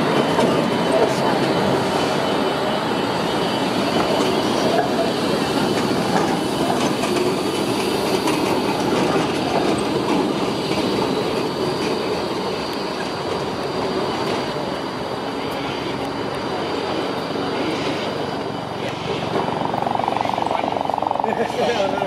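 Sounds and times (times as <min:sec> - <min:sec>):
tram wheels rumbling and clicking: 0:00.0 - 0:22.0.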